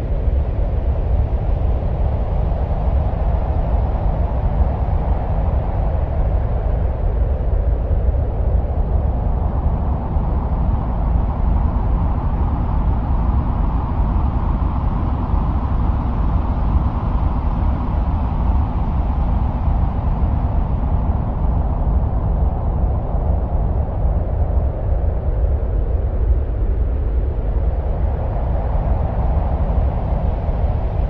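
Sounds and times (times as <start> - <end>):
wind-like low rumble: 0.0 - 31.0.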